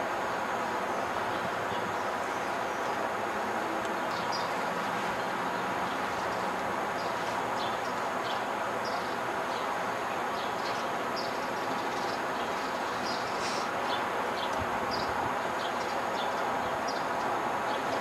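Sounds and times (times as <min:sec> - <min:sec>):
city traffic: 0:00.0 - 0:18.0.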